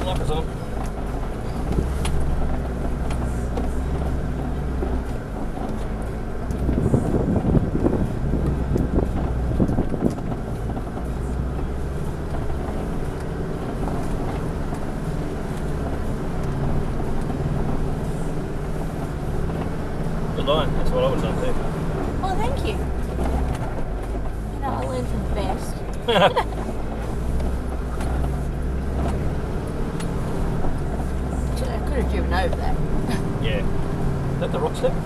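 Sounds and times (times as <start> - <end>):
vehicle engine running at low revs: 0.0 - 35.0.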